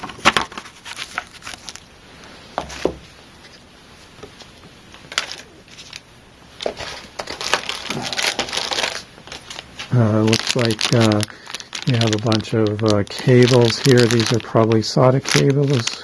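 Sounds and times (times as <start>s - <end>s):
packaging rustling and crinkling: 0.0s - 1.9s, 4.3s - 16.0s.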